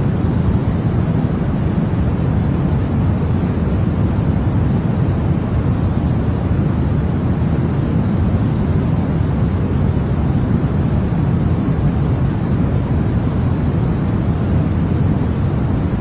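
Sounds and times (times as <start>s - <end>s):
deep white noise: 0.0s - 16.0s.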